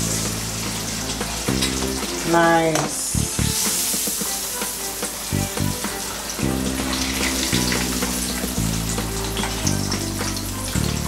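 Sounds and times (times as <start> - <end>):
background music low chords: 0.0 - 11.0
chicken deep-frying in oil: 0.0 - 11.0.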